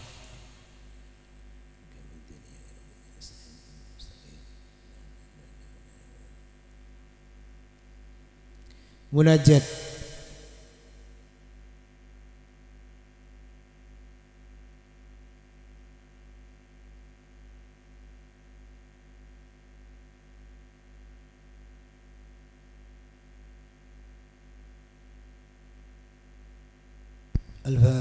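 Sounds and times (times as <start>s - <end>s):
faint microphone hiss: 0.0s - 28.0s
low electrical hum: 0.0s - 28.0s.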